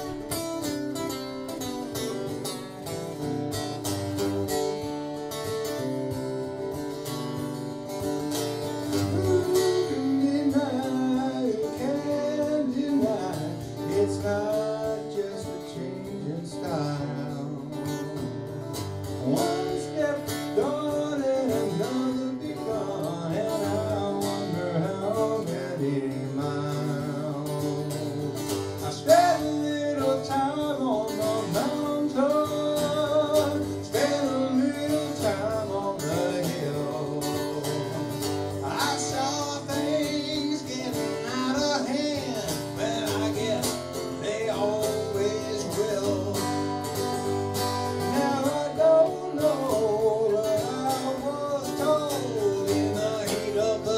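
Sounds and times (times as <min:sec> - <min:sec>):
acoustic guitar strumming: 0:00.0 - 0:53.9
guitar lead with bent notes: 0:00.0 - 0:53.9.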